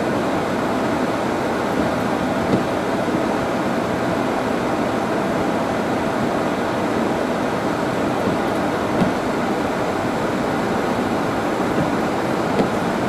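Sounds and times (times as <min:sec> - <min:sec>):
car tyres splashing through water: 0:00.0 - 0:13.0
heavy rain: 0:00.0 - 0:13.0.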